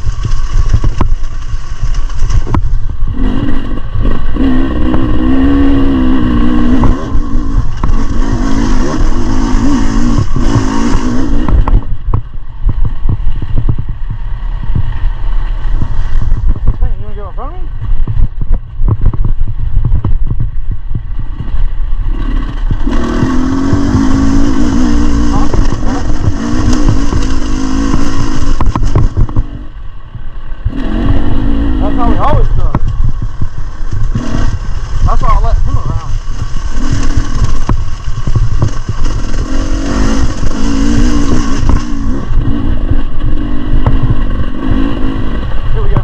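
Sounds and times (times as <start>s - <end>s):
dirt bike engine rumble: 0.0s - 46.0s.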